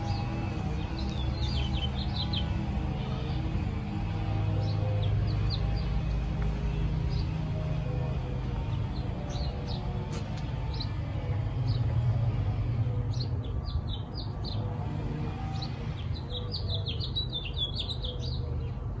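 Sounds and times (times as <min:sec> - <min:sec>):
steady low rumble: 0:00.0 - 0:17.8
small birds chirping: 0:00.0 - 0:19.0.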